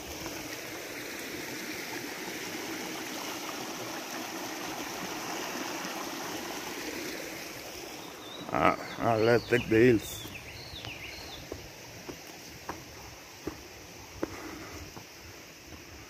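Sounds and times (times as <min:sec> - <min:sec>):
small stream flowing: 0:00.0 - 0:16.0.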